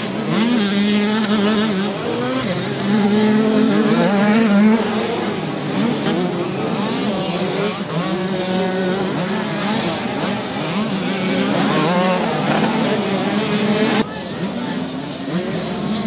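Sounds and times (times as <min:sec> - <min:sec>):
two-stroke motocross engines revving: 0:00.0 - 0:16.0.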